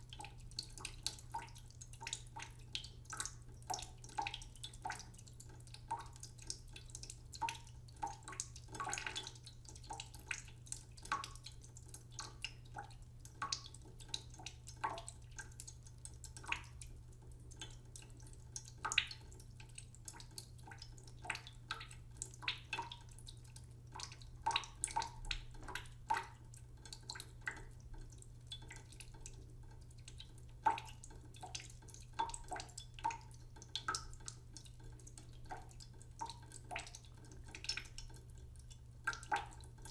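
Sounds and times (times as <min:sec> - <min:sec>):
water drops plinking into water: 0:00.0 - 0:16.9, 0:17.5 - 0:39.9.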